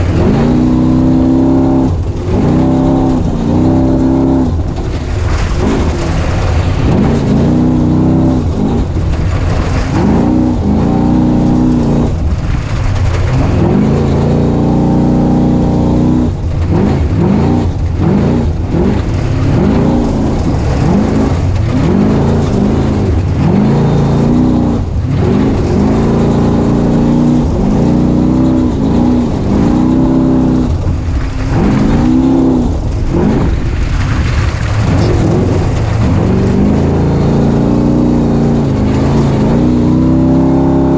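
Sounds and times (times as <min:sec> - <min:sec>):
low rumble: 0:00.0 - 0:40.1
vehicle engine revving: 0:00.0 - 0:40.9.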